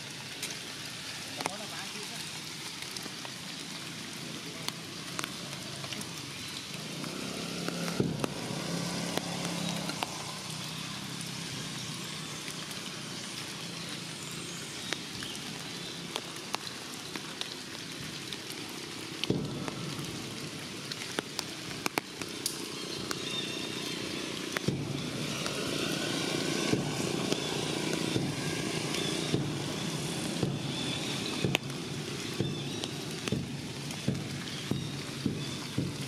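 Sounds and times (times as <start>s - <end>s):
drips ticking on leaves: 0.0s - 36.0s
light rain on foliage: 0.0s - 36.0s.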